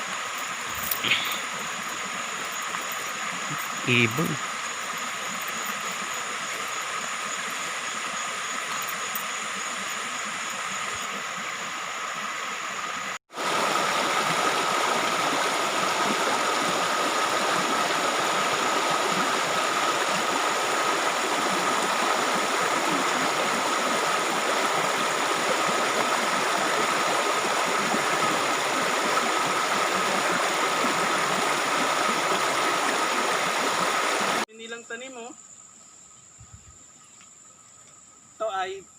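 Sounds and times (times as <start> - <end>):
stream water rushing: 0.0 - 34.5.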